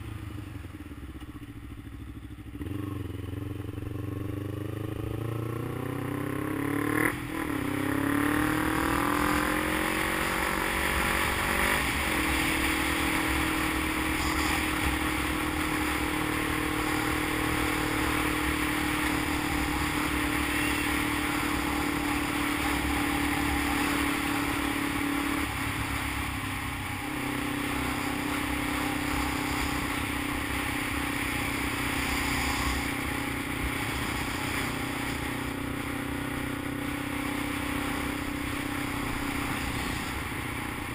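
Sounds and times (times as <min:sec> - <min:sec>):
wind and road noise: 0:00.0 - 0:40.9
motorcycle engine revving: 0:01.5 - 0:40.9.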